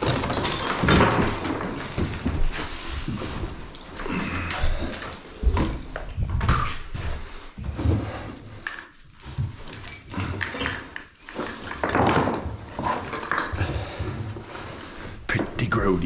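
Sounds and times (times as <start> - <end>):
debris clattering and scraping: 0.0 - 16.0.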